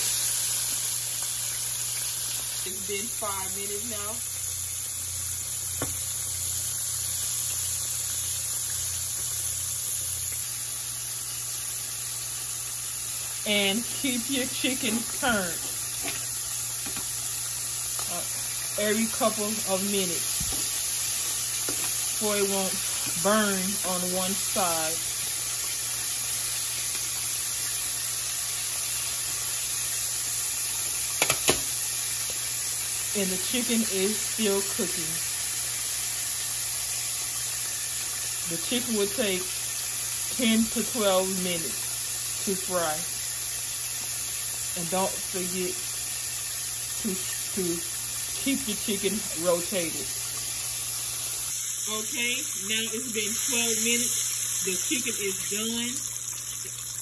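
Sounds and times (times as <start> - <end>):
oil sizzling while deep-frying: 0.0 - 57.0.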